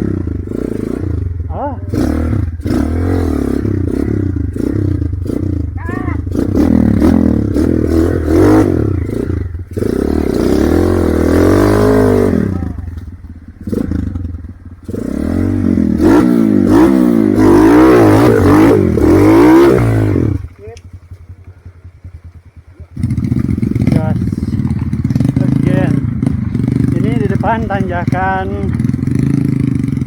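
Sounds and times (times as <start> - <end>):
motorcycle engine revving: 0.0 - 30.0
motorcycle clattering: 0.1 - 30.0.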